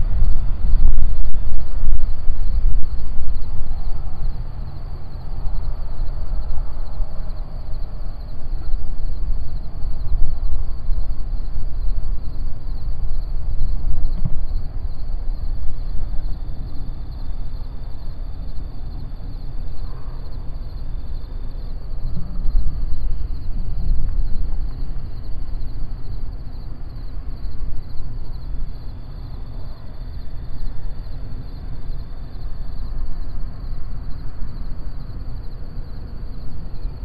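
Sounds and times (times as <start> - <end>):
insects trilling: 0.0 - 37.0
wind rumble on microphone: 0.0 - 37.0.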